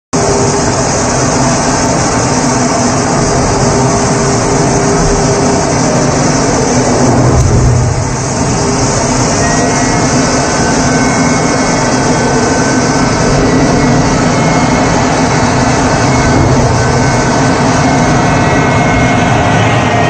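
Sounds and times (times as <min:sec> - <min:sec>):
aircraft engine noise: 0:00.1 - 0:20.0
faint high whining tones: 0:00.2 - 0:20.0.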